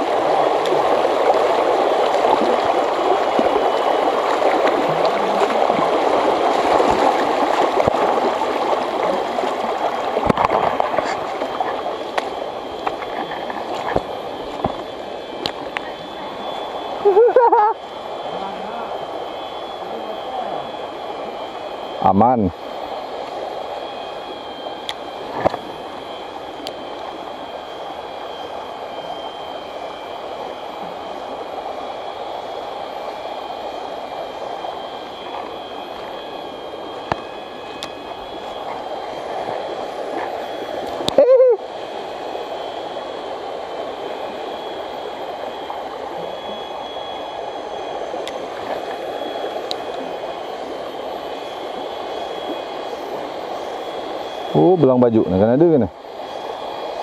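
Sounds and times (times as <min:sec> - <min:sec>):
faint steady high tone: 0:00.0 - 0:57.0
stream running over rocks: 0:00.0 - 0:57.0.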